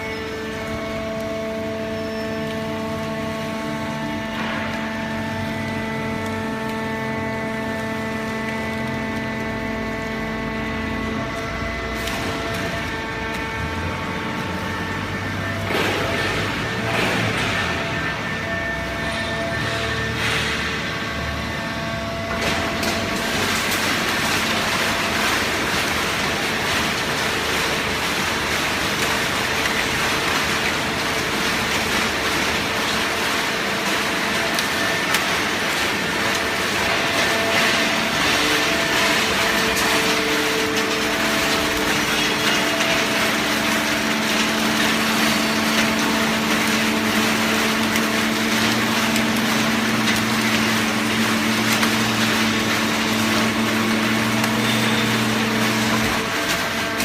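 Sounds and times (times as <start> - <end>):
hydraulic press whirring: 0.0 - 57.0.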